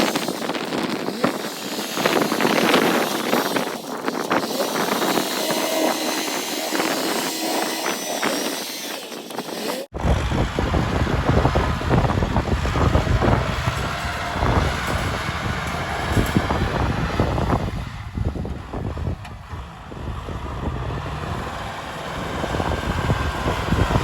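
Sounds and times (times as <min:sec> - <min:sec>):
tractor diesel engine running: 0:00.0 - 0:24.0
wind on microphone: 0:00.0 - 0:24.0.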